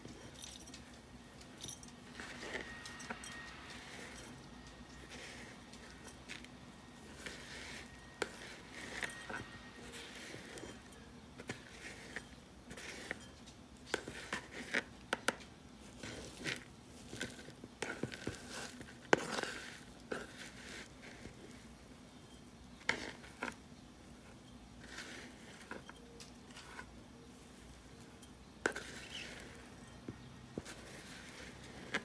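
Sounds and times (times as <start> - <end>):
soil scraping on tray: 2.0 - 32.0.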